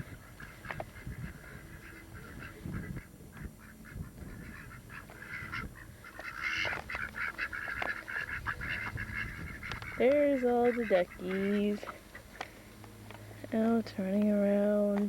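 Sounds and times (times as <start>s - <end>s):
ducks quacking: 0.0s - 13.4s.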